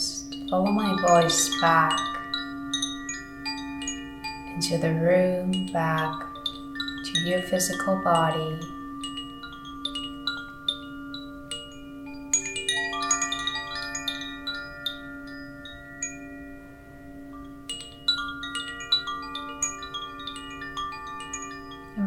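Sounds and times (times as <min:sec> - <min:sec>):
steady low tone: 0:00.0 - 0:22.0
wind chimes ringing: 0:00.0 - 0:22.0.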